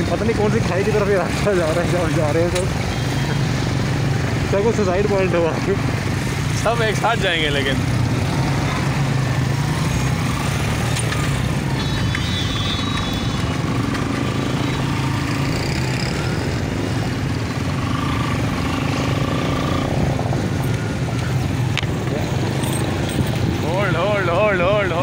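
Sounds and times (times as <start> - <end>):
motorcycle engine running: 2.3 - 24.3.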